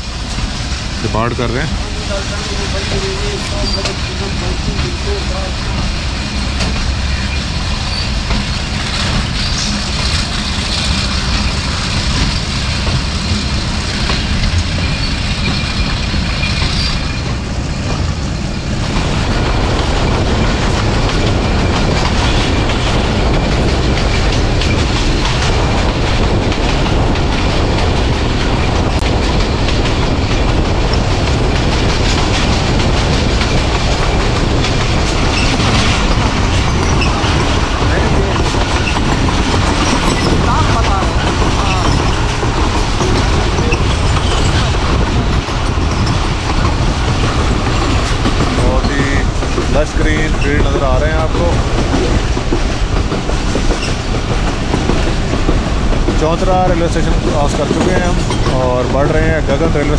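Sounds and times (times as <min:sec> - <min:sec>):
train wheels clickety-clack: 0:00.0 - 0:59.9.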